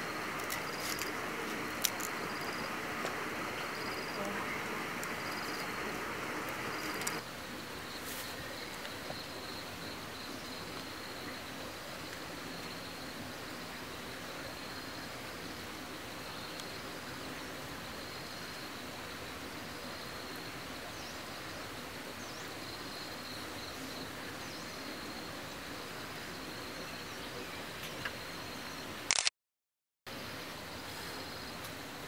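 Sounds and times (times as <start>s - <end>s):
insects buzzing: 0.0s - 29.1s
steady hiss: 0.0s - 29.1s.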